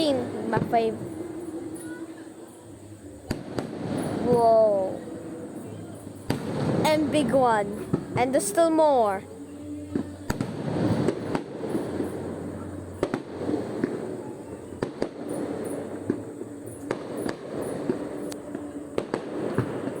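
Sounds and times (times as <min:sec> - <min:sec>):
fireworks sharp bangs: 0:00.0 - 0:02.6, 0:03.3 - 0:09.2, 0:09.9 - 0:20.0
fireworks crackling: 0:00.0 - 0:20.0.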